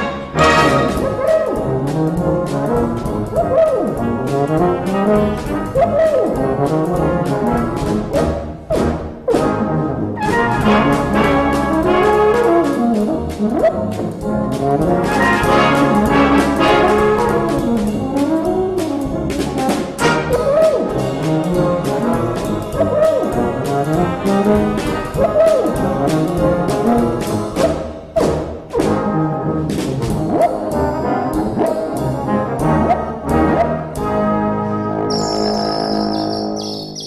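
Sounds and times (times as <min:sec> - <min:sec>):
brass band accompaniment: 0:00.0 - 0:37.0.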